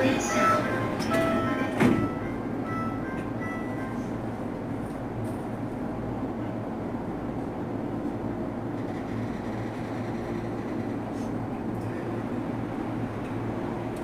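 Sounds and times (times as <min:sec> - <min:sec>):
train car interior rumble: 0:00.0 - 0:14.0.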